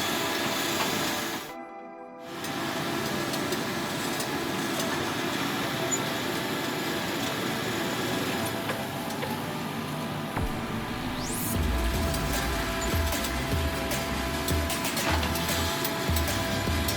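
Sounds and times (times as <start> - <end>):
heavy machinery engine running: 2.4 - 16.9.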